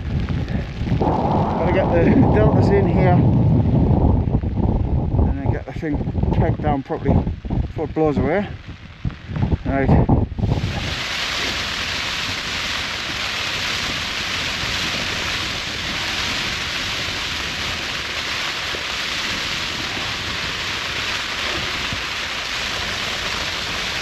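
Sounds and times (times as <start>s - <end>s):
heavy rain on tent: 0.0s - 24.0s.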